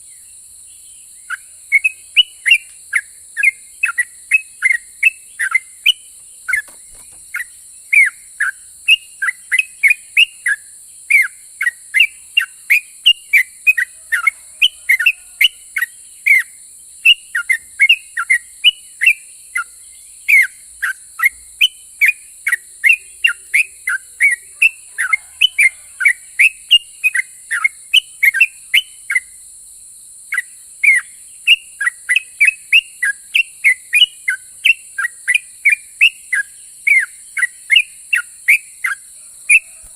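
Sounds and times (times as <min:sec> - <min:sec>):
bird singing whistled notes: 0:00.0 - 0:29.4, 0:30.3 - 0:39.9.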